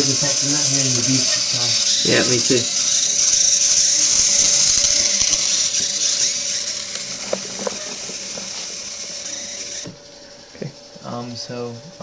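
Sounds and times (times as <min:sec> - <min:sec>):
robot drive motors whining: 0:00.0 - 0:12.0.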